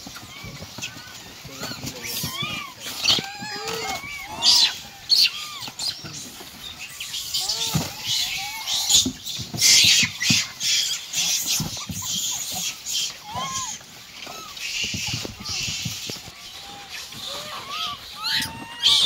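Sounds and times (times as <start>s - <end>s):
monkeys squealing: 0.0s - 19.0s
rustling paper and straw: 0.0s - 19.0s.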